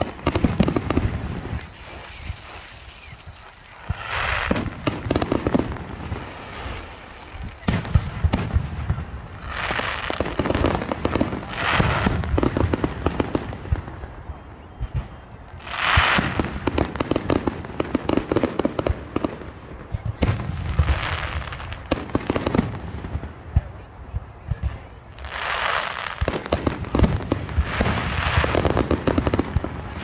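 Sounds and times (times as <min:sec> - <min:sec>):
dense firework crackling: 0:00.0 - 0:30.0.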